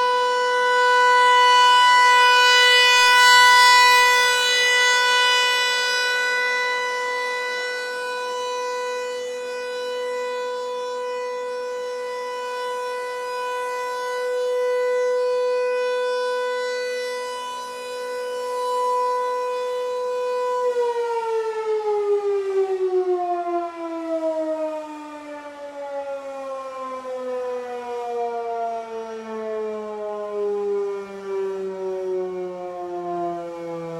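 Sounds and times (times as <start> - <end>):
siren winding down: 0.0 - 33.9
tornado siren steady tone: 0.0 - 33.9.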